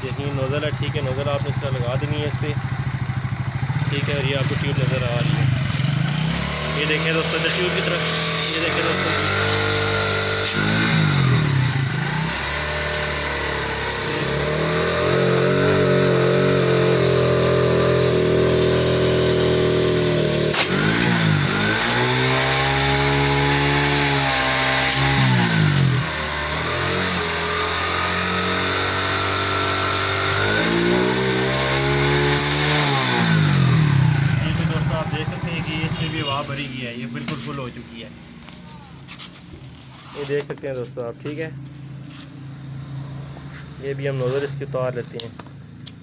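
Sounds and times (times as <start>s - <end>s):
motorcycle engine revving: 0.0s - 40.6s.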